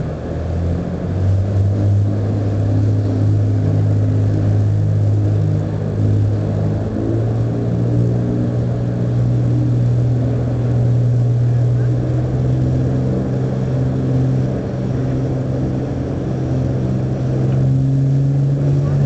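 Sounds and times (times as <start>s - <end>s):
engine droning low: 0.0s - 19.0s.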